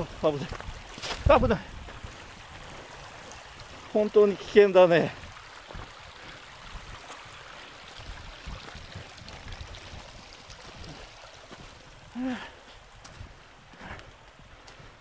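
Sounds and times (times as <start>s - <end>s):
footsteps on riverbed stones: 0.0s - 15.0s
water trickling: 0.0s - 15.0s.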